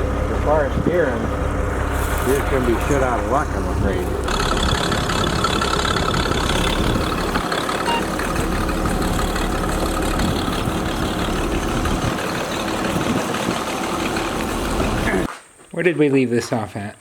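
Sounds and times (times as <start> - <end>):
tractor engine running: 0.0 - 15.3.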